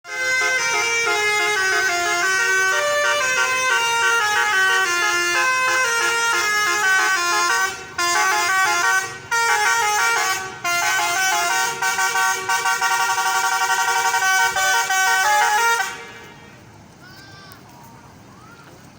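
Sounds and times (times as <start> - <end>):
musical bus air horn tune: 0.0 - 16.9.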